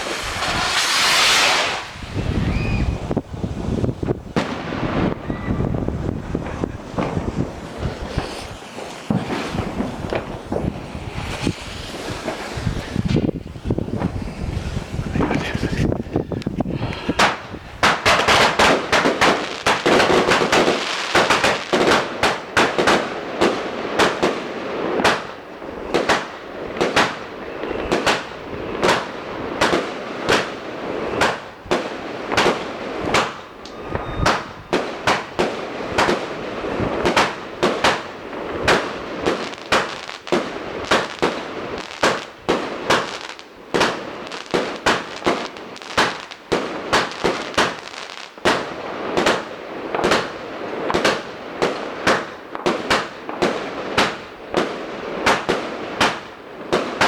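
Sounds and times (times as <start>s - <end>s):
fireworks cracking and banging: 0.0s - 57.0s.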